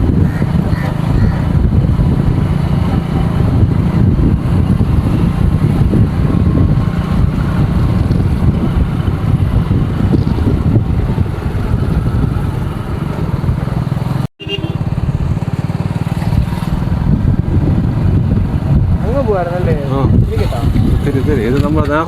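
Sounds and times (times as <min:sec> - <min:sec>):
vehicle engine rumble: 0:00.0 - 0:22.0
wind buffeting microphone: 0:00.0 - 0:22.0.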